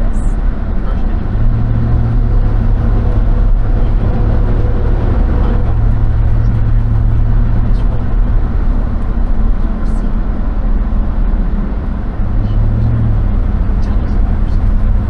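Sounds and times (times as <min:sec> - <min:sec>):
constant low hum: 0:00.0 - 0:15.0
vehicle engine running: 0:00.0 - 0:15.0.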